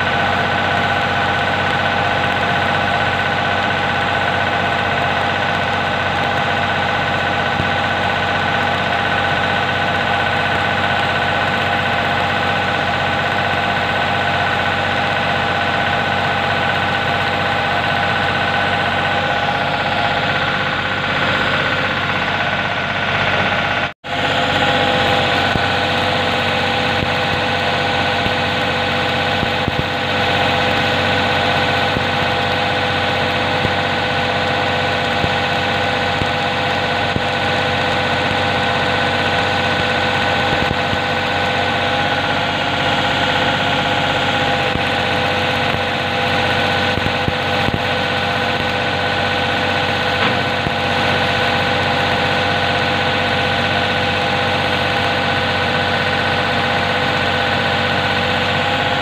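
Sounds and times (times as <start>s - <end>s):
welding arc crackling sizzle: 0.0s - 59.0s.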